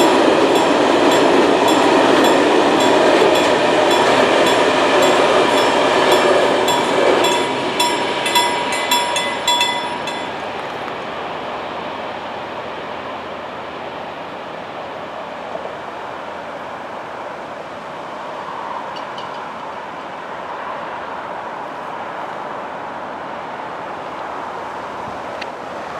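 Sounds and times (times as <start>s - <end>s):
freight train rumbling on track: 0.0s - 25.9s.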